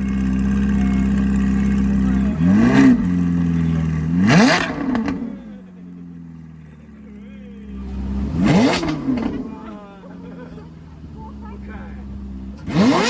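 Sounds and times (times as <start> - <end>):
engine revs rising and falling: 0.0 - 5.5, 7.7 - 13.0
car engine idling: 0.0 - 13.0.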